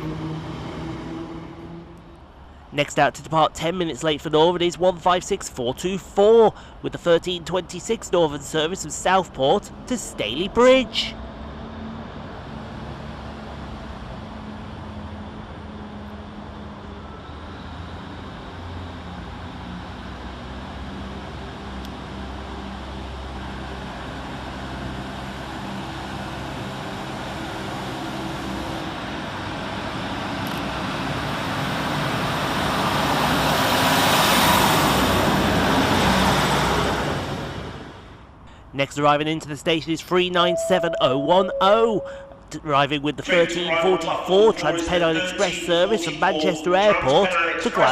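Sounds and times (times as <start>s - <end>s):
diesel train engines running: 0.0s - 2.8s, 5.0s - 38.7s, 43.4s - 47.6s.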